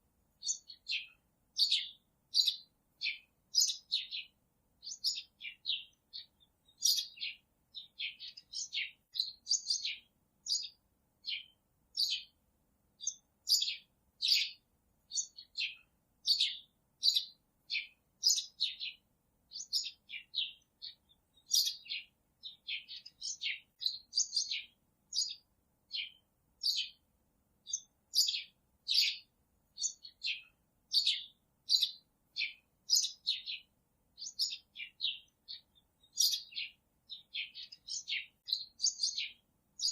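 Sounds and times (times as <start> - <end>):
small bird chirping: 0.0 - 12.4, 13.0 - 27.0, 27.6 - 39.9.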